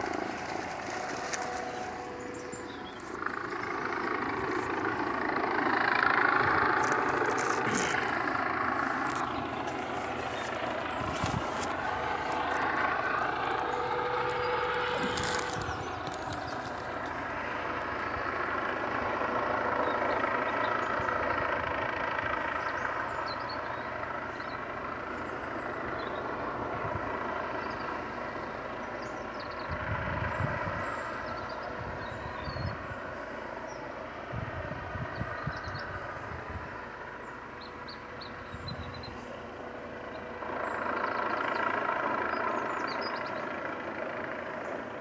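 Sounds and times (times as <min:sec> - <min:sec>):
helicopter engine and rotors droning: 0:00.0 - 0:45.0.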